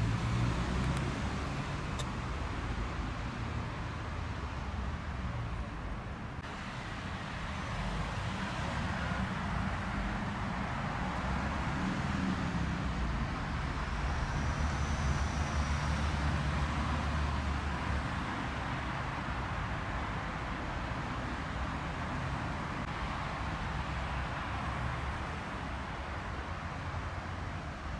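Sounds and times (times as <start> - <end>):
low rumble of passing vehicle: 0.0 - 27.9
road traffic noise: 0.0 - 27.9.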